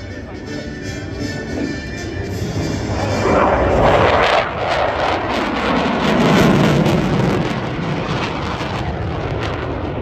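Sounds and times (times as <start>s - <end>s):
fighter jet roar passing overhead: 0.0s - 10.0s.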